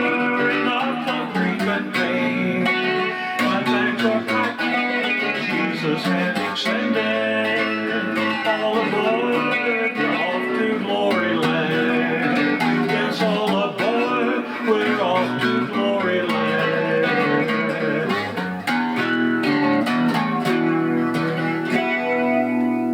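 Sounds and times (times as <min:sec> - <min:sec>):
gospel song with guitar: 0:00.0 - 0:22.9.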